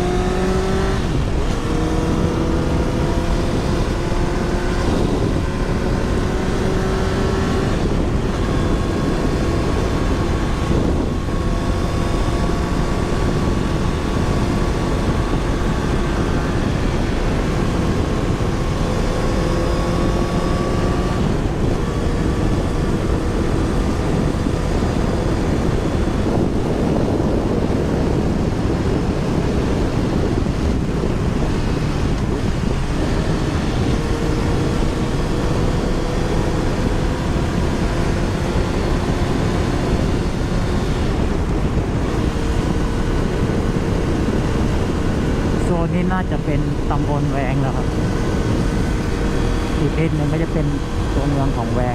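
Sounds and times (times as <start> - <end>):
motorbike engine running: 0.0 - 51.9
wind noise on microphone: 0.0 - 51.9.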